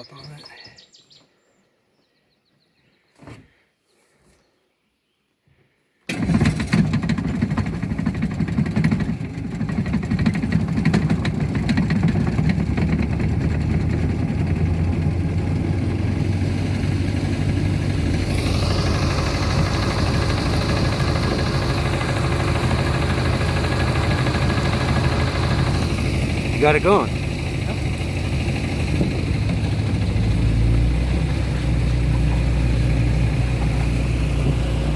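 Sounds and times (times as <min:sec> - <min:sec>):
outboard motor starting and running: 0:06.1 - 0:34.9.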